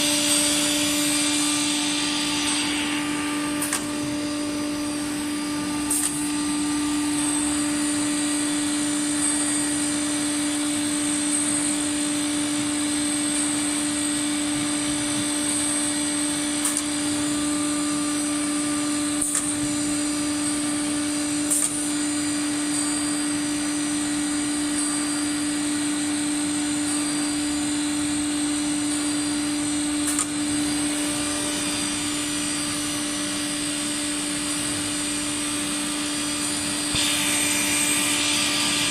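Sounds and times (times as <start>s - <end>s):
router machine running: 0.0s - 38.9s.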